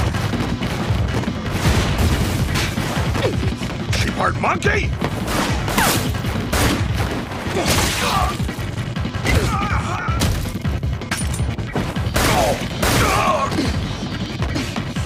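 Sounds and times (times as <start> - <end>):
dramatic background music: 0.0 - 15.0.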